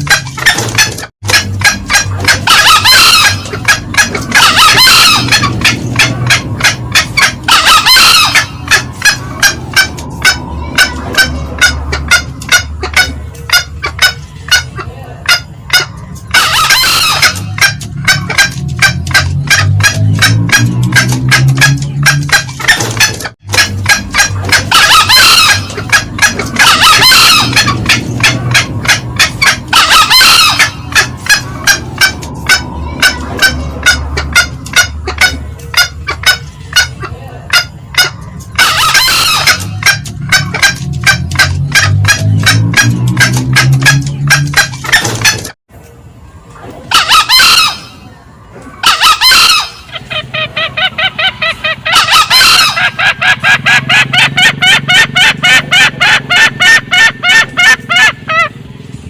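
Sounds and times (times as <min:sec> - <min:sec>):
junglefowl crowing call: 0:00.0 - 0:45.5, 0:46.9 - 0:48.1, 0:48.8 - 0:58.5
junglefowl cackling clucks: 0:00.0 - 0:45.6, 0:46.9 - 0:58.5.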